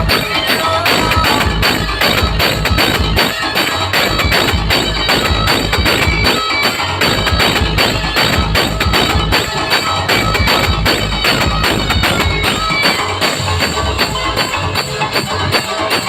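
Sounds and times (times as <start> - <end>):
dj music with heavy bass beat: 0.0 - 16.0.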